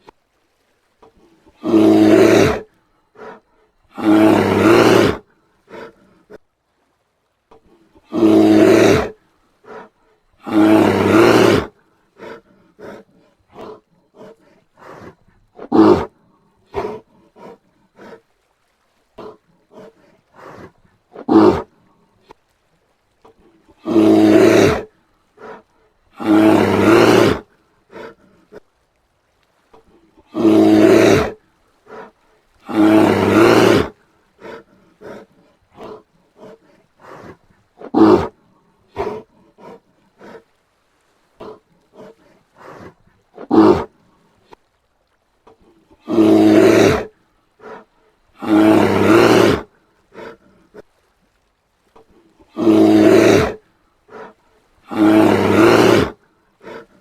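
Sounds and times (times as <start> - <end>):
bear deep calls: 1.0 - 6.4, 7.5 - 18.3, 19.1 - 22.4, 23.2 - 28.7, 29.8 - 40.6, 41.2 - 44.7, 45.5 - 51.0, 52.0 - 57.0
bear grunting: 1.4 - 6.4, 7.6 - 18.2, 19.2 - 21.7, 23.7 - 28.6, 30.2 - 40.5, 41.4 - 43.9, 45.5 - 50.8, 52.4 - 57.0.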